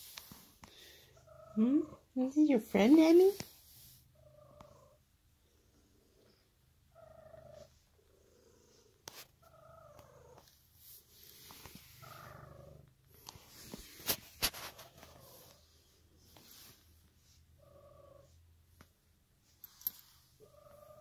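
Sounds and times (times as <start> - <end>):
cat purring: 0.0 - 18.7, 19.7 - 21.0.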